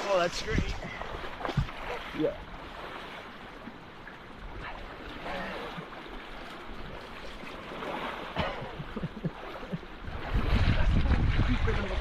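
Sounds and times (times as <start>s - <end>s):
stream water rushing: 0.0s - 12.0s
water splashes: 0.0s - 12.0s.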